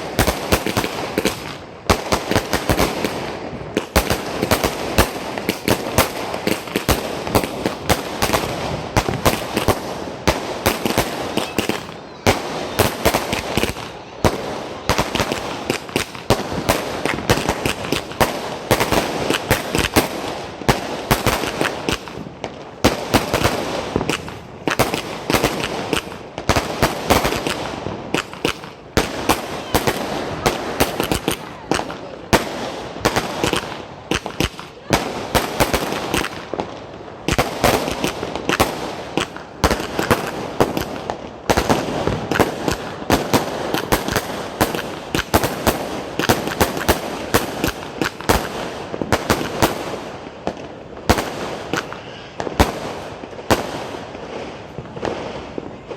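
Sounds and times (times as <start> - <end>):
firework bangs: 0.0 - 55.9
firework crackling: 0.0 - 55.9.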